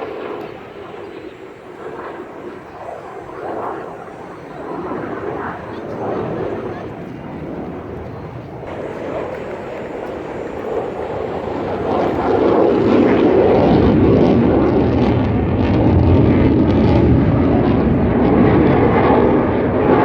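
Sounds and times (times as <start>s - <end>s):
fighter jet engine passing over: 0.0s - 20.0s.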